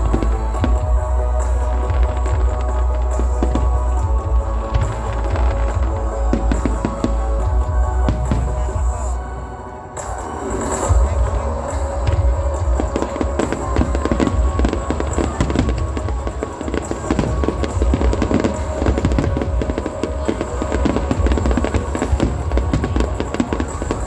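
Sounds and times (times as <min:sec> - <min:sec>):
fireworks bangs and crackling: 0:00.0 - 0:24.0
music playing: 0:00.0 - 0:24.0.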